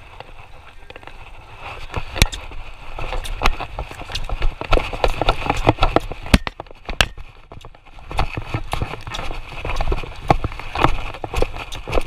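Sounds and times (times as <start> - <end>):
horse hoofbeats on dirt: 0.0 - 12.0.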